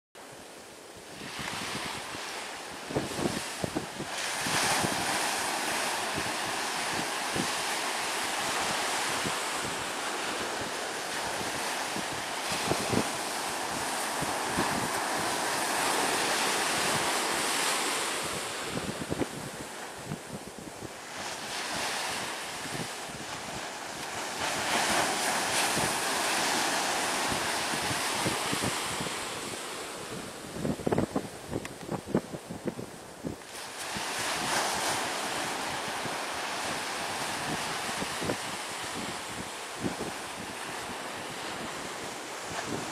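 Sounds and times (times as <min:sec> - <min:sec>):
sea surf breaking: 0:00.3 - 0:42.9
wind buffeting microphone: 0:01.0 - 0:42.9.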